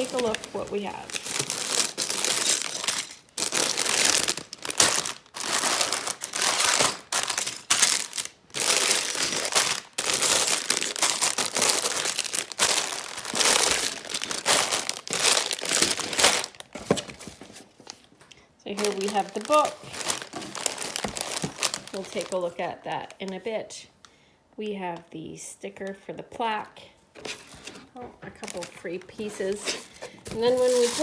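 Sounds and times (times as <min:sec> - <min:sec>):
packaging crinkling and rustling: 0:00.0 - 0:23.5, 0:27.2 - 0:31.0.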